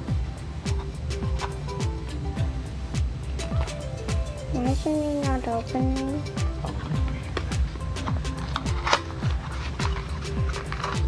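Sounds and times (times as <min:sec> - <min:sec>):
background music with steady beat: 0:00.0 - 0:11.0
deep kick drum: 0:00.0 - 0:11.0
light hi-hats: 0:00.0 - 0:11.0.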